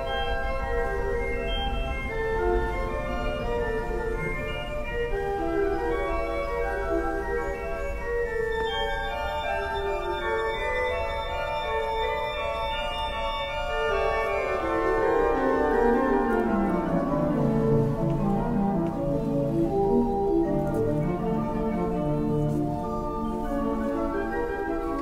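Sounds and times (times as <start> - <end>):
pipe organ playing: 0.0 - 25.0.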